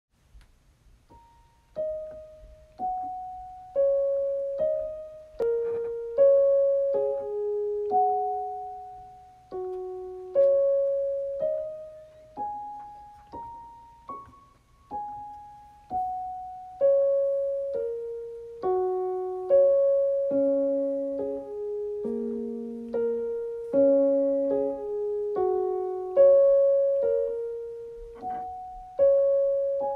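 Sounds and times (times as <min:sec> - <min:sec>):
slow solo piano melody: 0:01.0 - 0:29.9.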